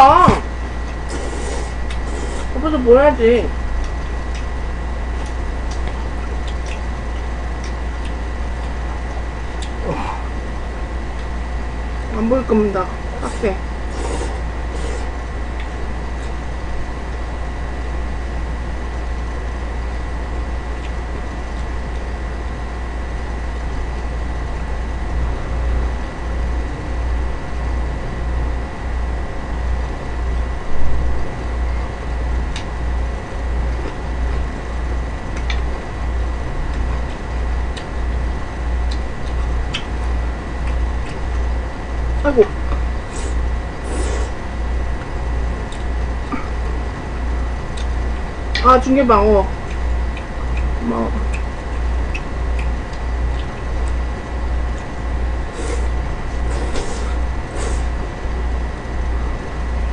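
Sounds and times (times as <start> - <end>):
room noise hum and hiss: 0.0 - 59.9.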